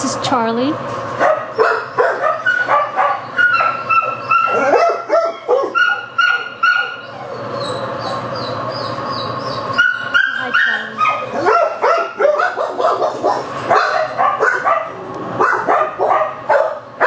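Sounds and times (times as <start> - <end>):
dogs barking and yipping: 1.1 - 17.0.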